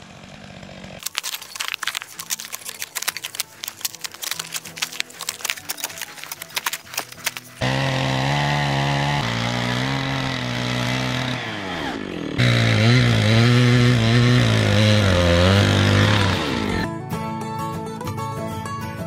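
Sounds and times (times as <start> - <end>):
chainsaw cutting log: 0.0 - 16.9.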